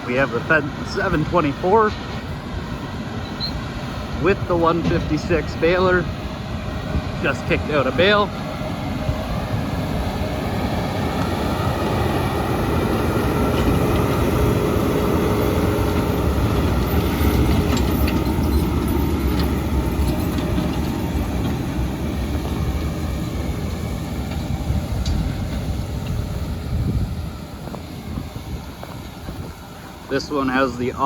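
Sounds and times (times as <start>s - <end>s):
tractor engine under load: 0.0s - 31.0s.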